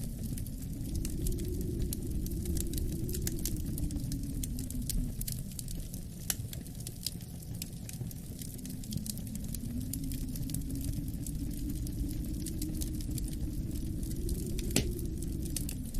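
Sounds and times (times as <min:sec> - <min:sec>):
low wind rumble: 0:00.0 - 0:15.9
wood fire crackling and popping: 0:00.0 - 0:15.9.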